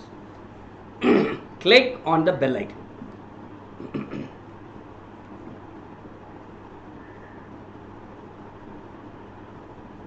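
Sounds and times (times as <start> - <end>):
low even hum: 0.0 - 10.0.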